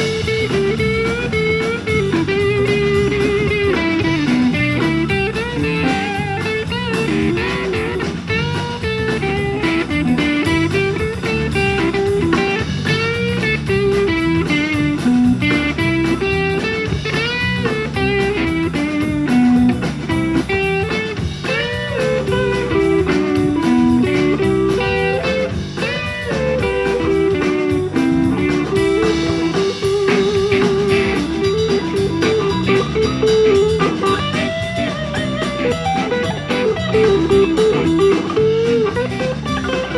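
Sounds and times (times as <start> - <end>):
bass guitar: 0.0 - 39.9
drum kit: 0.0 - 39.9
electric guitar lead: 0.0 - 39.9.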